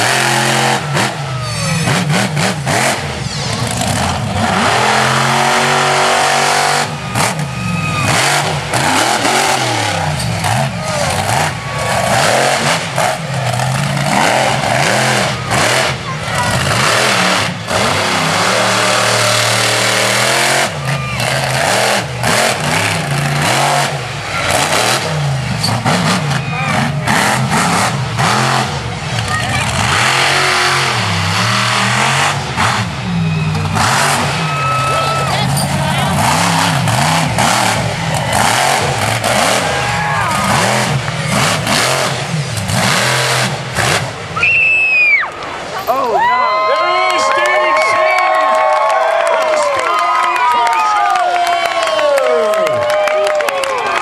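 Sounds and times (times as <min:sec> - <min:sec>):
monster truck engine revving: 0:00.0 - 0:45.9.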